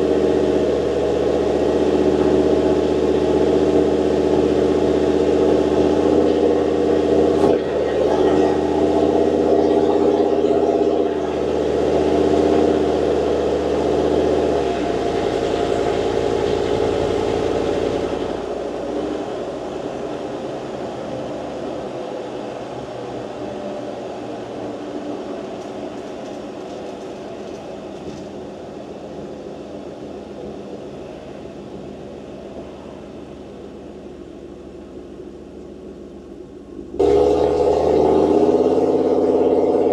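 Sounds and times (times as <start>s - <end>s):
engine drone inside cab: 0.0s - 39.9s.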